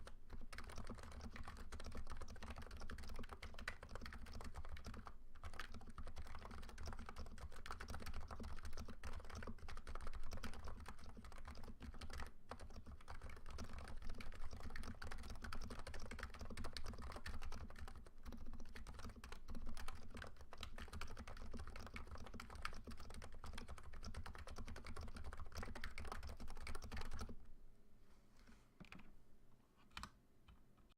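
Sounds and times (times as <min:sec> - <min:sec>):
fast keyboard typing: 0:00.0 - 0:27.4.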